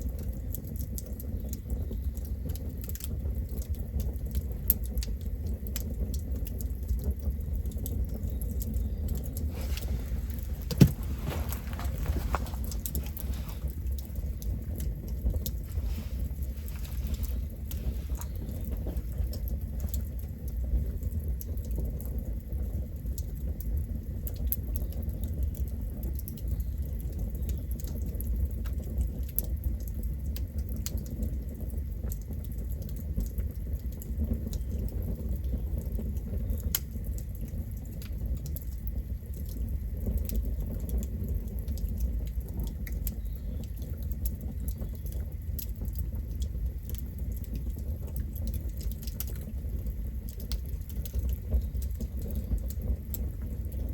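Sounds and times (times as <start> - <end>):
low rumble of flames: 0.0 - 53.9
wood crackling and popping: 0.0 - 53.9.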